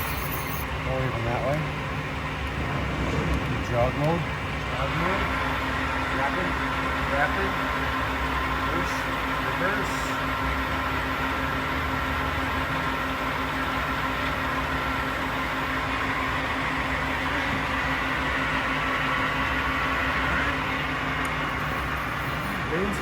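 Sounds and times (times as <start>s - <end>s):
machine humming and whining: 0.0s - 23.0s.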